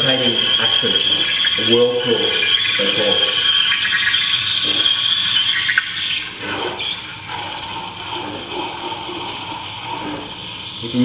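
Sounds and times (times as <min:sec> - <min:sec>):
steam wand frothing milk: 0:00.0 - 0:11.0.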